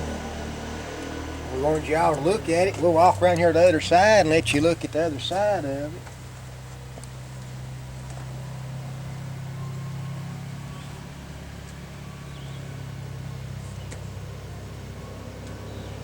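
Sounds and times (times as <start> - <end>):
engine running drone: 0.0 - 16.0.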